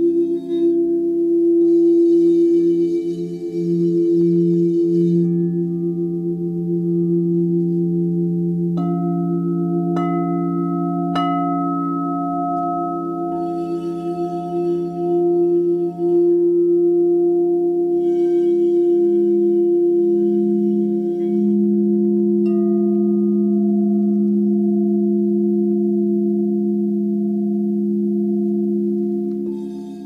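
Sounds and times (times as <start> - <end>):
bowl struck: 0.0 - 30.0
singing bowls ringing: 0.0 - 30.0.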